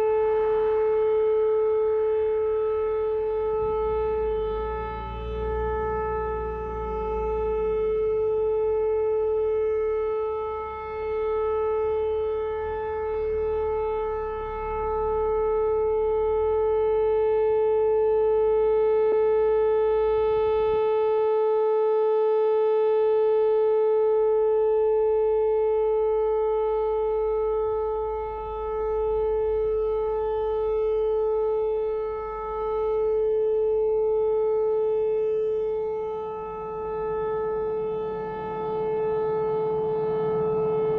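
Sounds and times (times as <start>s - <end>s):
rotating warning siren tone: 0.0s - 40.9s.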